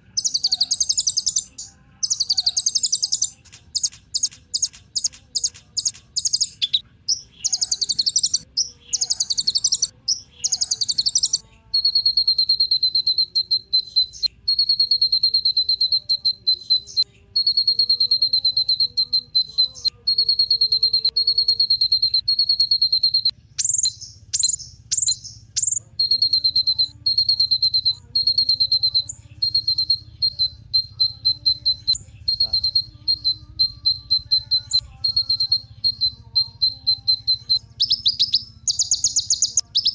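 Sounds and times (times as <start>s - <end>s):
sunbird singing trills: 0.0s - 39.9s.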